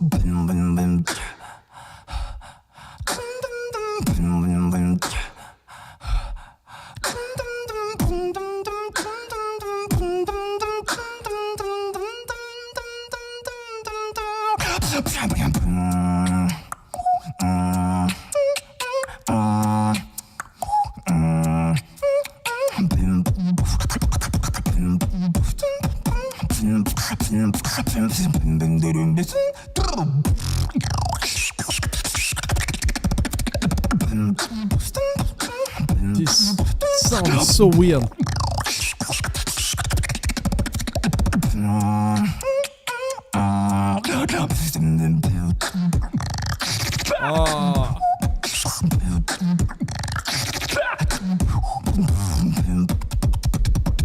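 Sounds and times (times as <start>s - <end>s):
beatboxing buzzing bass: 0.0s - 1.4s, 2.4s - 5.4s, 6.9s - 54.0s
beatboxing clicks and hits: 0.0s - 54.0s.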